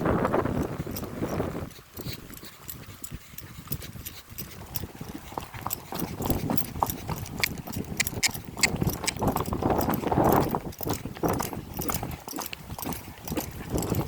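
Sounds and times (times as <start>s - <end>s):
horse hoofbeats clip-clop: 0.0s - 14.0s
wind rumbling on microphone: 0.0s - 14.0s.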